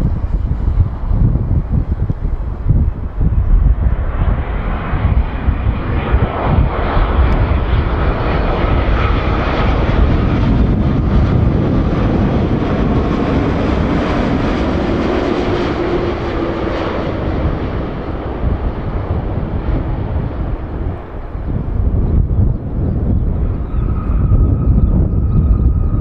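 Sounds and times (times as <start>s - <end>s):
jet engines rushing drone: 0.0s - 26.0s.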